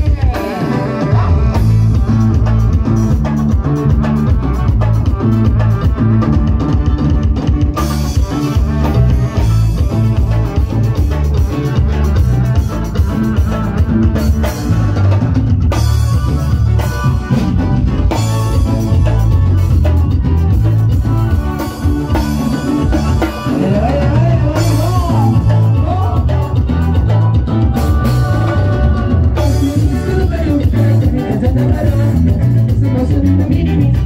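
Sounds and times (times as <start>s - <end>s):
loud band music: 0.0s - 34.0s
wavering lead melody: 0.0s - 34.0s.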